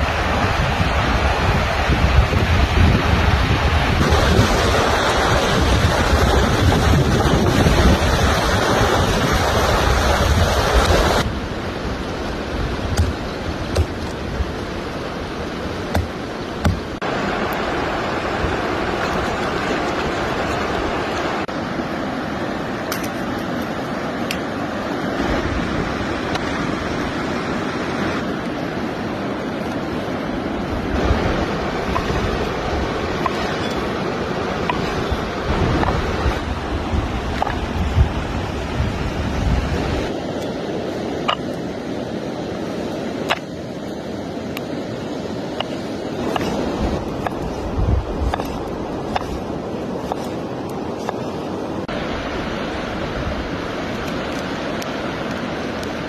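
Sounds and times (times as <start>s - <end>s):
river rapids roaring over rocks: 0.0s - 56.0s.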